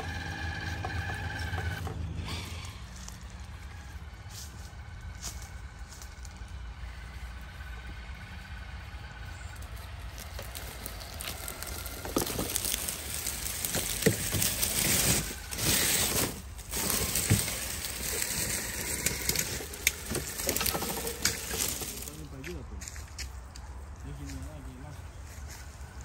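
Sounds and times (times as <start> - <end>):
tyres crackling through dry leaves: 0.0 - 26.0.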